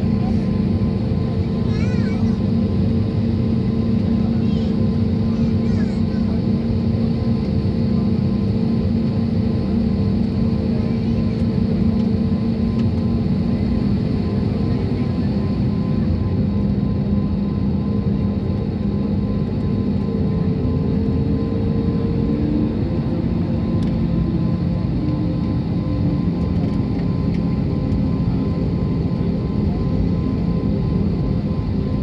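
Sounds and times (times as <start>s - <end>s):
jet engine and airflow rush: 0.0s - 32.0s.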